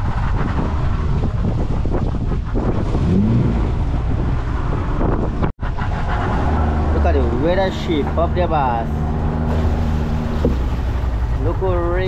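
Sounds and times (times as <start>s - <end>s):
boat motor running: 0.0s - 12.0s
water wash: 0.0s - 12.0s
wind buffeting microphone: 0.0s - 12.0s.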